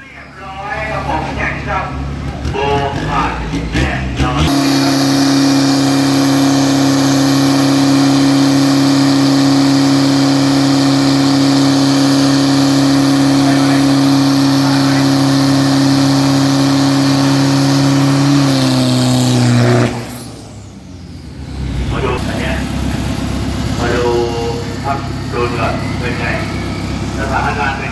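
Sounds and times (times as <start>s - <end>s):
diesel engine droning: 0.0s - 27.9s.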